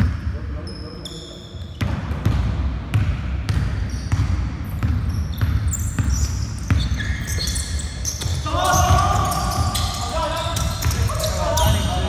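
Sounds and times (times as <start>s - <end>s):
sneaker squeaks: 0.0s - 2.0s, 3.5s - 12.0s
basketball bouncing on court: 1.7s - 12.0s.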